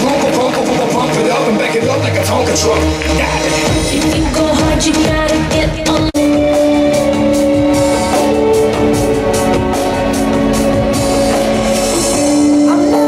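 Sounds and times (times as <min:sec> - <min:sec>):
music with guitar and drums: 0:00.0 - 0:13.0.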